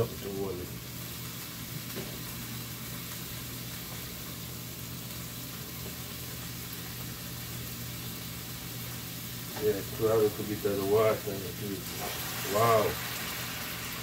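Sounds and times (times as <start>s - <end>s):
food sizzling in a skillet: 0.0s - 14.0s.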